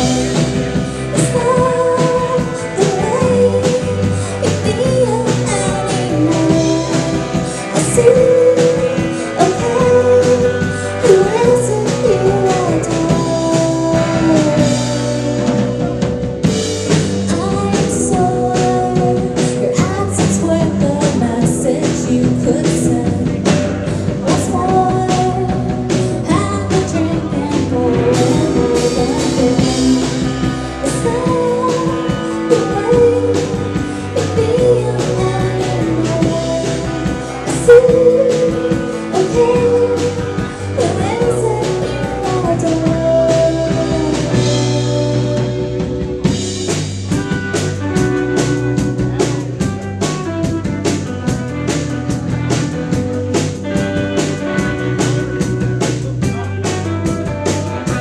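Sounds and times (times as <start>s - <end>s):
woman singing lead: 0.0s - 46.5s
drum kit: 0.0s - 58.0s
electric guitars: 0.0s - 58.0s.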